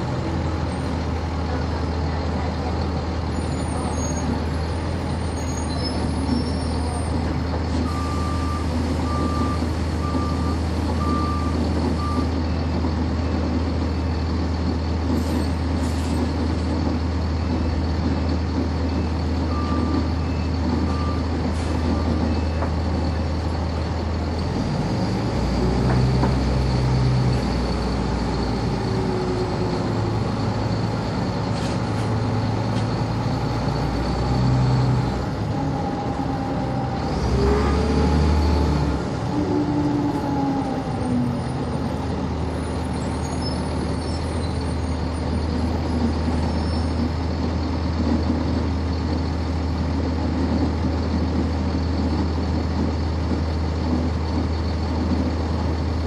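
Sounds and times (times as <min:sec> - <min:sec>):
diesel bus engine idling: 0:00.0 - 0:56.0.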